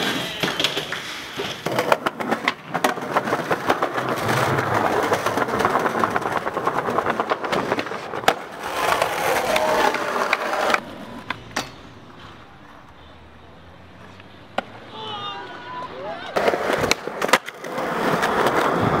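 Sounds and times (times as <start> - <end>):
skateboard clack: 0.0 - 19.0
skateboard wheels rolling on concrete: 0.0 - 19.0.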